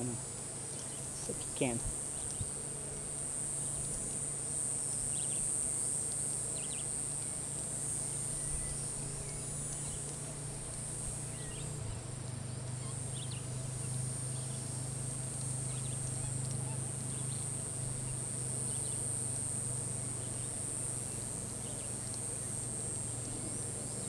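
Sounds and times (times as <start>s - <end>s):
high-pitched insect drone: 0.0s - 24.0s
low steady hum: 0.0s - 24.0s.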